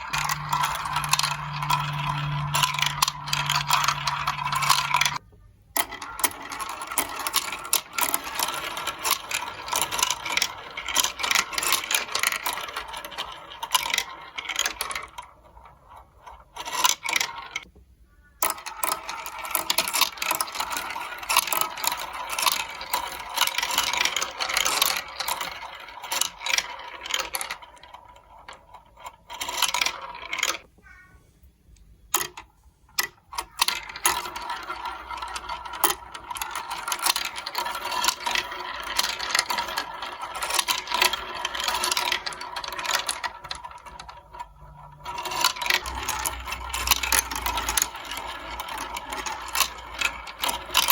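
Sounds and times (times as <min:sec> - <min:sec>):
marbles rattling through a run: 0:00.0 - 0:05.2, 0:05.8 - 0:17.7, 0:18.4 - 0:31.0, 0:32.1 - 0:50.9.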